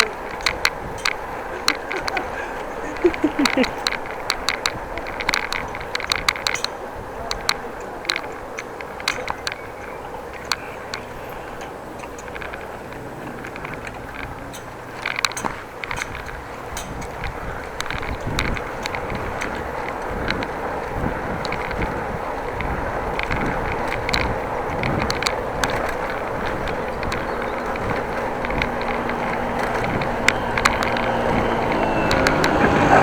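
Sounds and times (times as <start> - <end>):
bicycle tyres rumbling on road: 0.0 - 33.0
small clicks: 0.0 - 33.0
wind on microphone: 0.0 - 33.0.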